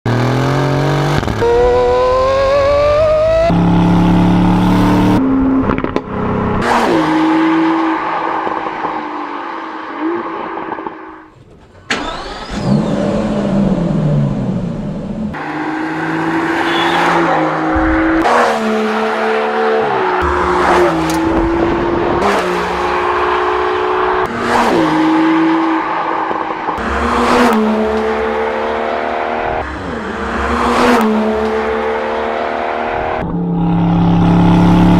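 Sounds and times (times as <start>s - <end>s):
car engine revving and accelerating: 0.1s - 11.2s, 12.0s - 34.9s.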